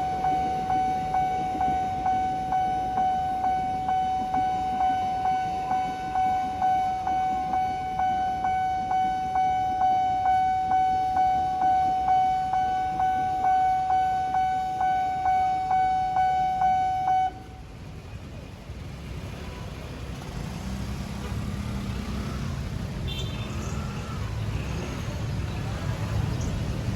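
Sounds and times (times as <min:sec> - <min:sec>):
road traffic: 0:00.0 - 0:26.9.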